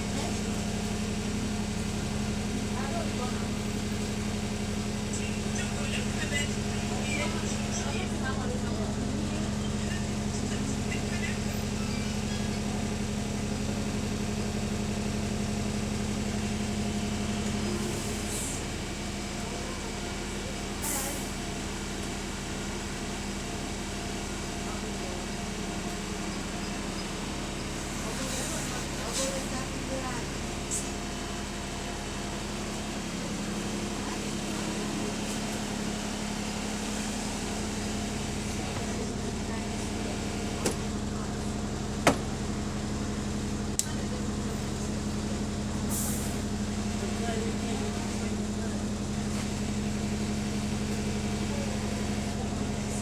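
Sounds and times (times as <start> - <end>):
bus diesel engine idling: 0.0 - 53.0.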